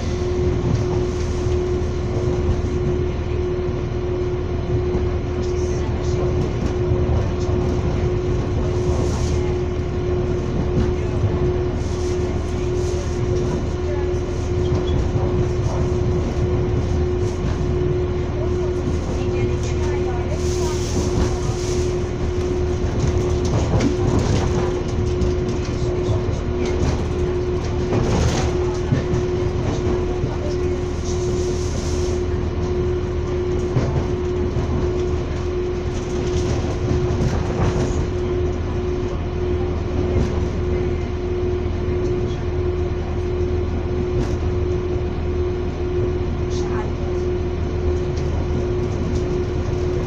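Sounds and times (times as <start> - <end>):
constant hum: 0.0 - 50.0
train running gear rumble: 0.0 - 50.0.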